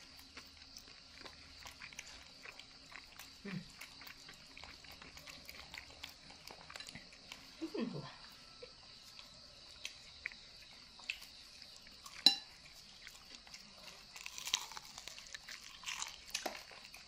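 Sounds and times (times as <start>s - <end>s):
crunching and chewing snack: 0.0s - 17.0s.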